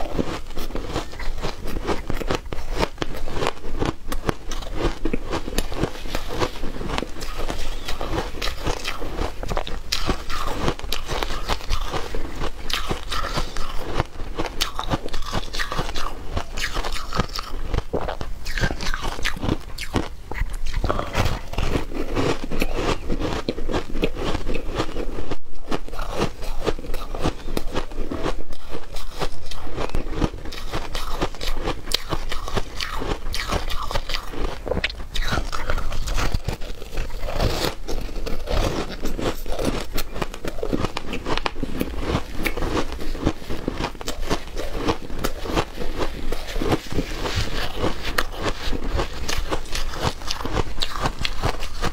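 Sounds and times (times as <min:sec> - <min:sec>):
ice crunching between teeth: 0:00.0 - 0:51.9.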